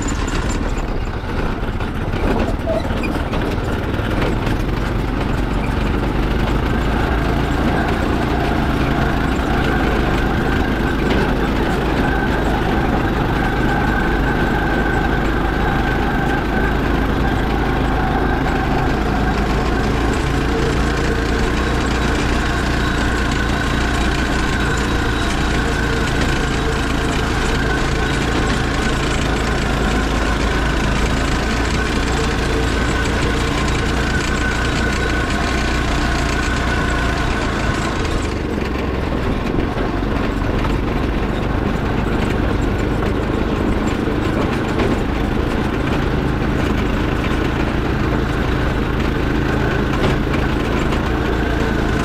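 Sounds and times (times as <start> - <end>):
go-kart engine running: 0.0 - 52.0.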